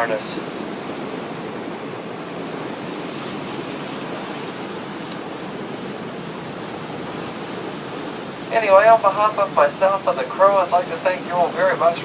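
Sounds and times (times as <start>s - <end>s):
large waterfall rushing: 0.0s - 12.0s.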